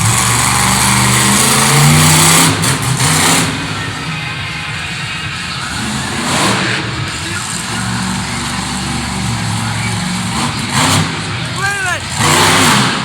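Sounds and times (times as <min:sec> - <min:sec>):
monster truck engine revving: 0:00.0 - 0:04.4, 0:05.3 - 0:13.0.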